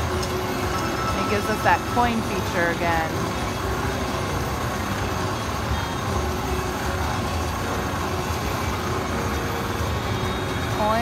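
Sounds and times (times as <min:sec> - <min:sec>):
electronic slot machine tones: 0:00.0 - 0:11.0
low rumble of crowd and machines: 0:00.0 - 0:11.0.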